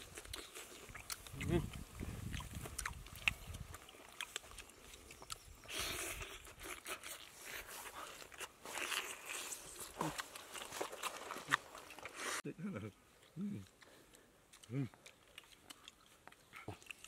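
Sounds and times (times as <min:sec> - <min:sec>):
biting and chewing meat: 0:00.0 - 0:12.4, 0:13.1 - 0:17.0.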